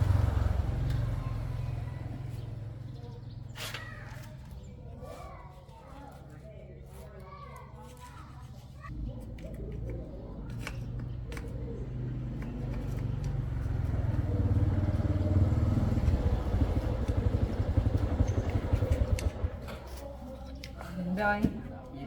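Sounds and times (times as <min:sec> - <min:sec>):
small motorcycle engine running: 0:00.0 - 0:06.4, 0:07.9 - 0:20.8.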